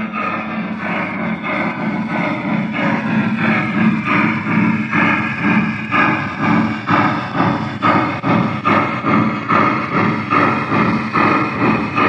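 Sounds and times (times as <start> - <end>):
model locomotive steam chuffs: 0.0 - 12.0.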